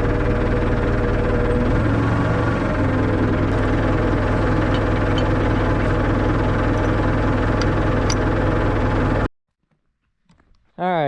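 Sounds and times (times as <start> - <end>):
tractor engine running: 0.0 - 9.3.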